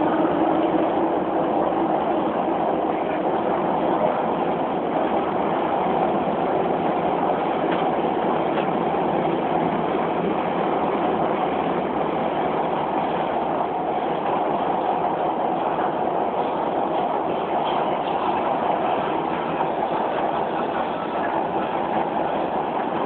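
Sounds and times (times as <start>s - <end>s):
metro train running noise: 0.0s - 23.0s.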